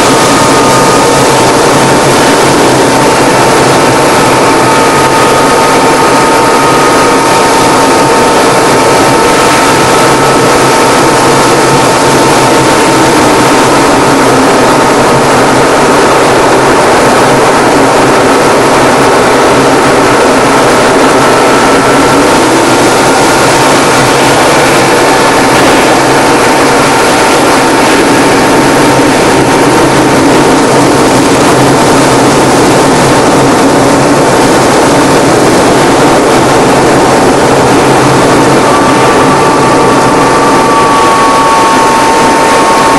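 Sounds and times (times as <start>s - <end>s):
propeller plane engine drone: 0.0s - 42.9s
rushing air: 0.0s - 42.9s.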